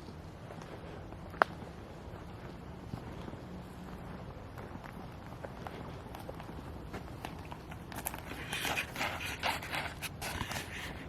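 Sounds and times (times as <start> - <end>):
footsteps on woodland trail: 0.0 - 11.0
low steady rumble: 0.0 - 11.0.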